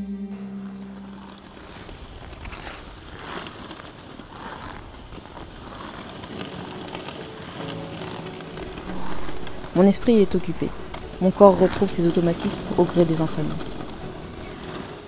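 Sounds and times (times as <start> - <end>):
skate blades scraping on ice: 0.6 - 15.0.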